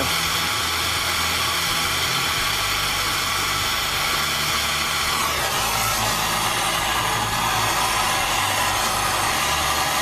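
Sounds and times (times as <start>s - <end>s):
gas torch flame hissing: 0.0s - 10.0s.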